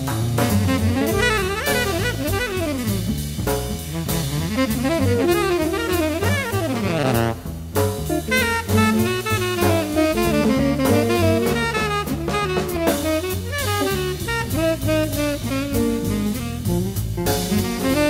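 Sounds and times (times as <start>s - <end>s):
double bass: 0.0s - 18.0s
drum kit with cymbals: 0.0s - 18.0s
tenor saxophone improvising: 0.0s - 18.0s.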